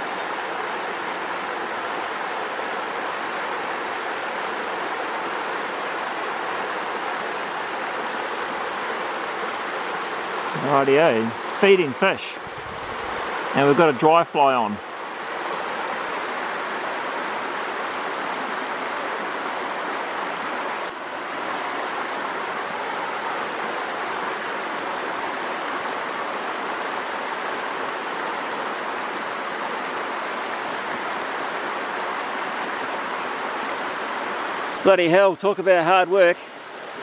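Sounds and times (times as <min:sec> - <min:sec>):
river rushing over stones: 0:00.0 - 0:37.0.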